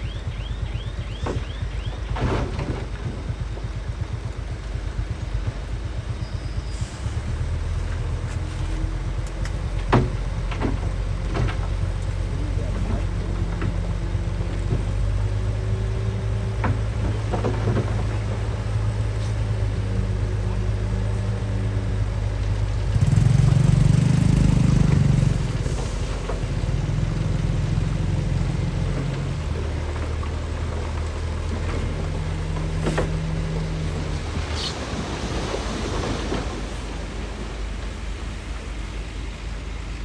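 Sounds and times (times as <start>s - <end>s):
diesel engine of heavy machinery: 0.0s - 40.0s.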